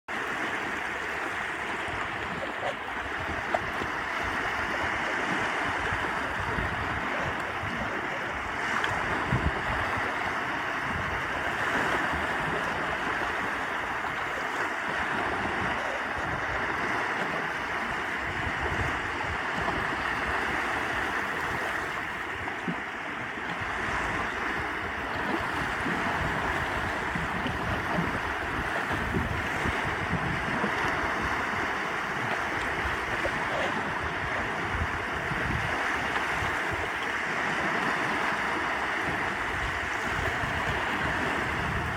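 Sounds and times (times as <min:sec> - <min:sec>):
lake waves washing onto shore: 0:00.1 - 0:41.9.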